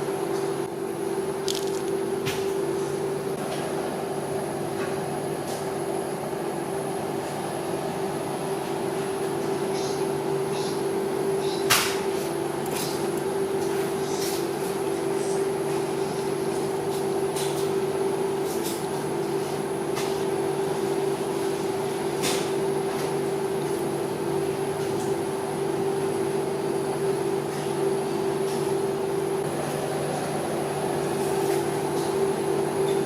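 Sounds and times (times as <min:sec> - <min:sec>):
mechanical hum: 0:00.0 - 0:33.0.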